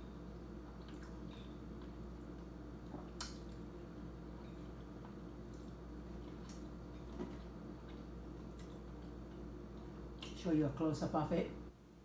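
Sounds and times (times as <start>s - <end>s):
steady low hum: 0.0s - 12.0s
chewing and wet mouth sounds: 0.6s - 10.4s.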